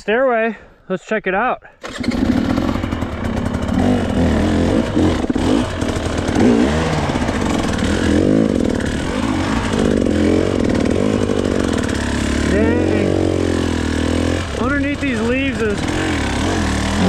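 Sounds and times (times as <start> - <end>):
dirt bike engine revving: 1.8 - 17.0.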